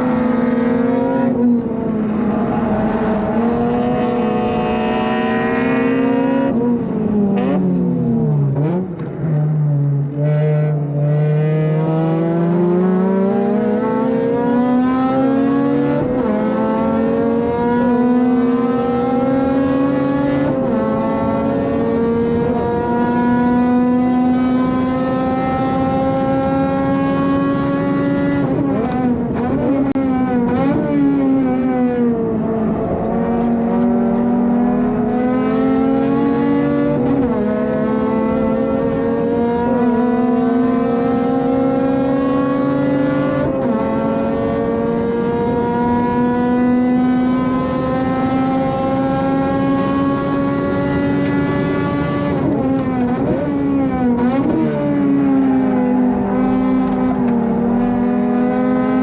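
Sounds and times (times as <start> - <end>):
car engine revving through gears: 0.0 - 59.0.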